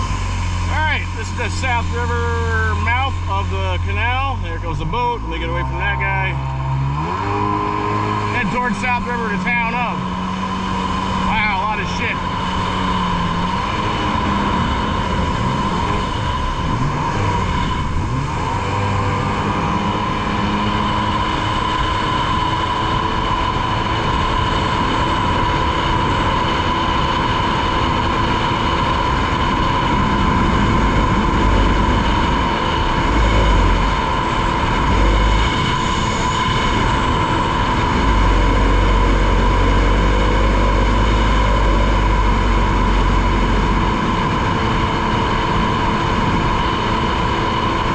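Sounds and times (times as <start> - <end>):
personal watercraft engine drone: 0.0 - 47.9
wind rumbling on microphone: 0.0 - 47.9.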